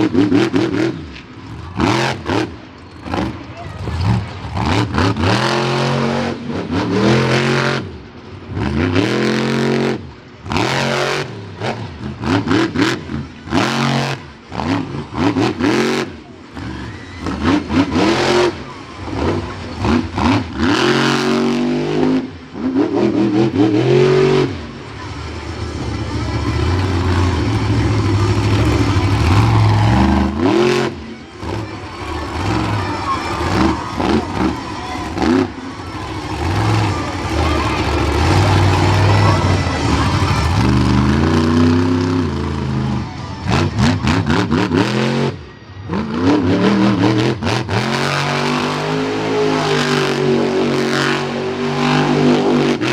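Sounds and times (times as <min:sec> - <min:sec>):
monster truck engine revving: 0:00.0 - 0:52.9.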